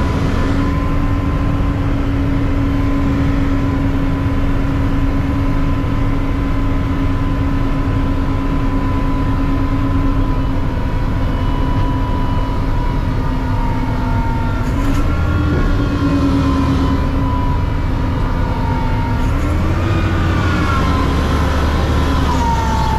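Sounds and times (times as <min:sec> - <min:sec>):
constant whine: 0:00.0 - 0:22.9
garbage truck engine rumble: 0:00.0 - 0:22.9.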